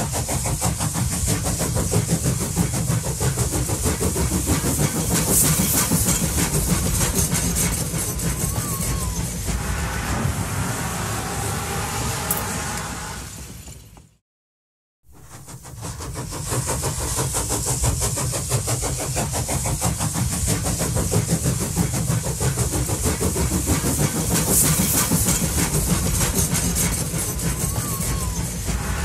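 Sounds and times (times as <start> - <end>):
train running rhythmic beats: 0.0 - 11.0, 15.1 - 29.0.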